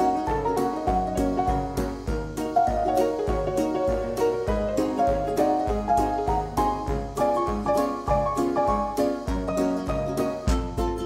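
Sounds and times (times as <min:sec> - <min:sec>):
bouncy instrumental music: 0:00.0 - 0:11.0.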